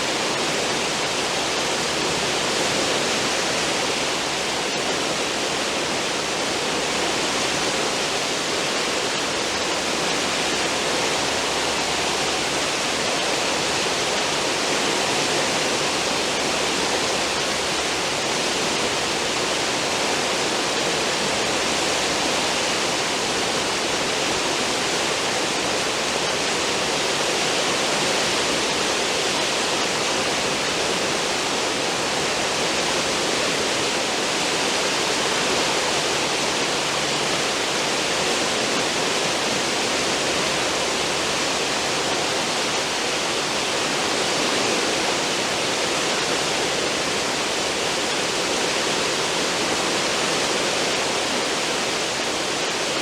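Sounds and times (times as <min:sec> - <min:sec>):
churning water wake: 0:00.0 - 0:53.0.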